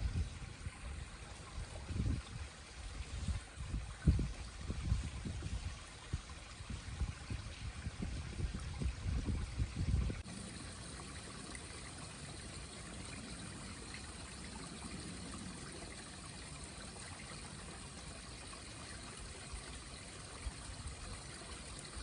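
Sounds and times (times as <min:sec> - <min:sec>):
stream water trickling: 0:00.0 - 0:22.0.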